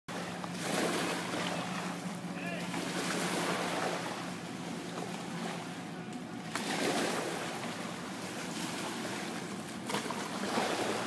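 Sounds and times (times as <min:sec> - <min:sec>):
water lapping: 0:00.1 - 0:11.0.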